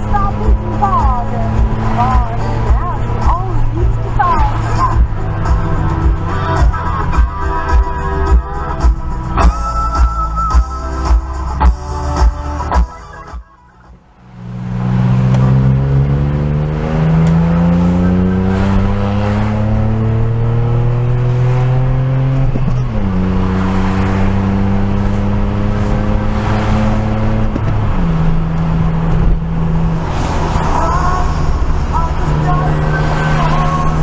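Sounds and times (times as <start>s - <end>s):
car engine accelerating: 0.0s - 9.7s, 10.4s - 34.0s.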